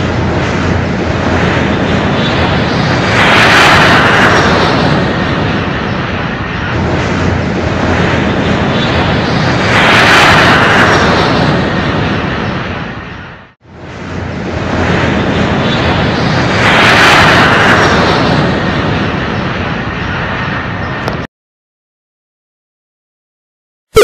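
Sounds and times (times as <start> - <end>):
airplane engine drone: 0.0 - 21.3.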